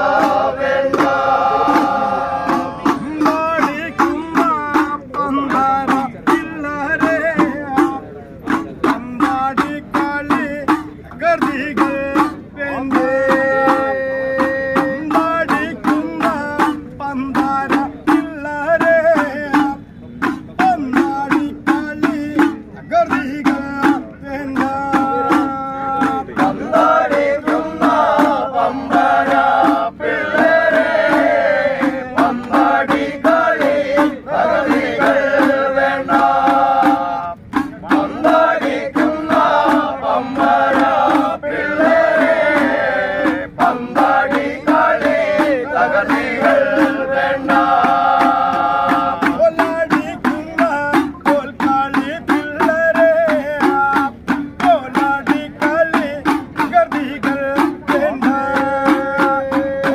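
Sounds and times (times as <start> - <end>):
hand drums beating: 0.0 - 59.9
men chanting devotional song: 0.0 - 59.9.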